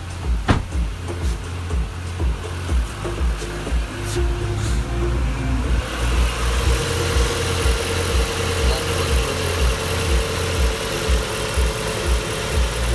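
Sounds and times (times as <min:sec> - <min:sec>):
car engine idling: 0:00.0 - 0:12.9
deep thumps: 0:00.0 - 0:12.9
steady whine: 0:00.0 - 0:12.9.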